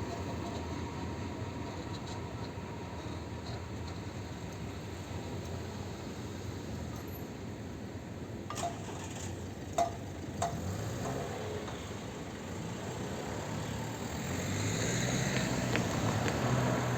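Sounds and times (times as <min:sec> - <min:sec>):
outdoor noise: 0:00.0 - 0:16.9
road vehicle approaching: 0:00.0 - 0:16.9.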